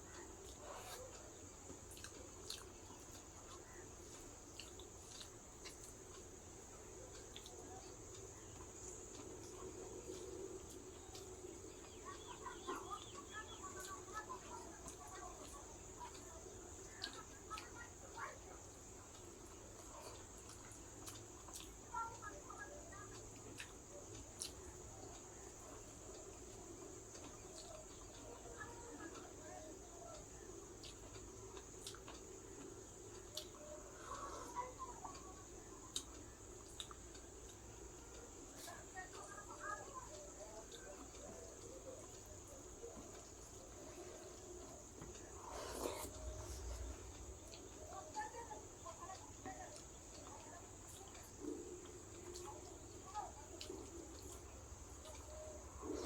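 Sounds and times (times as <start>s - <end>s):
eating clicks and mouth noises: 0.0s - 56.0s
faint steady hum: 0.0s - 56.0s.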